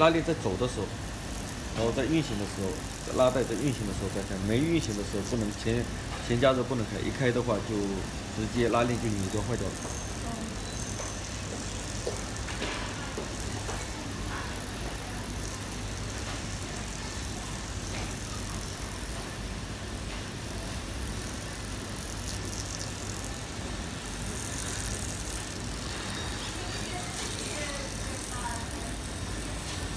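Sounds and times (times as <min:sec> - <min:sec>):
zipper machine whirring: 0:00.0 - 0:29.9.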